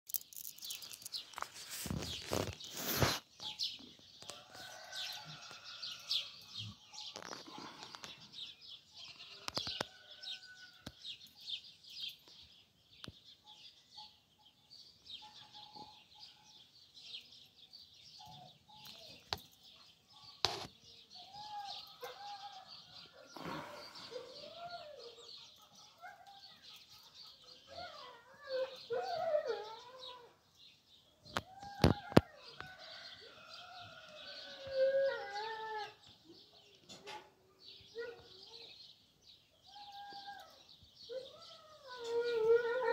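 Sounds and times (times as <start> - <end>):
small songbirds chirping: 0.1 - 42.9.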